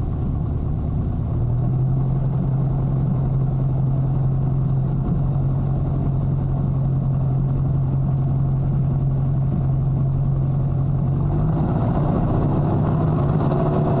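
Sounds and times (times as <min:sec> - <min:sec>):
propeller plane engine: 0:00.0 - 0:14.0.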